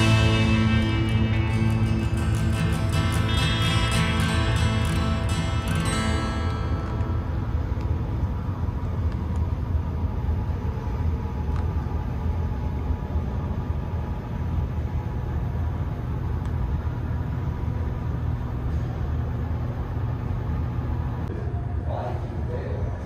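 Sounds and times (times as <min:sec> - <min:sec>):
indoor hall ambience rumble: 0:00.0 - 0:23.0.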